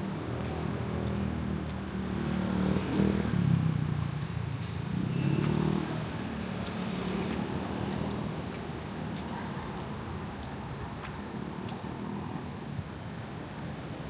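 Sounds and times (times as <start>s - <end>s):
passing vehicle engines: 0.0s - 12.8s.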